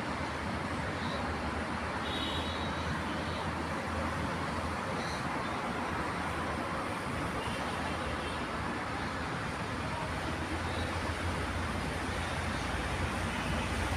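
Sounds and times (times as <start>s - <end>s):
vehicle noise rumbling: 0.0s - 13.9s.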